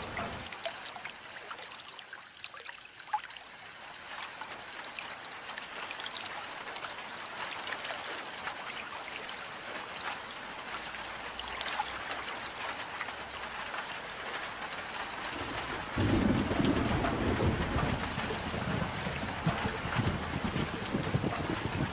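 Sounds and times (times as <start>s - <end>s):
rain drops pattering: 0.0s - 21.9s.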